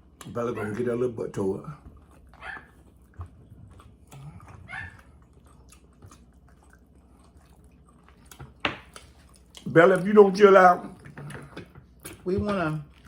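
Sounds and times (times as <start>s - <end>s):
chewing with mouth clicks: 0.0s - 13.0s.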